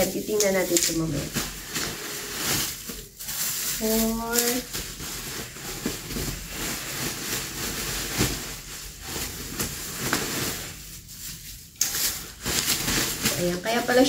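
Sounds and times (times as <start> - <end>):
plastic wrapping rustling: 0.0 - 14.0.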